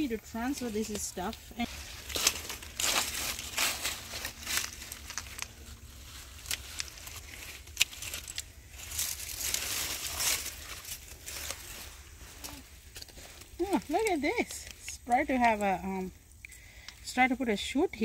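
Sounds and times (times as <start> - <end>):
garden shears snipping: 0.0 - 16.9
dry leaves rustling: 0.0 - 18.0.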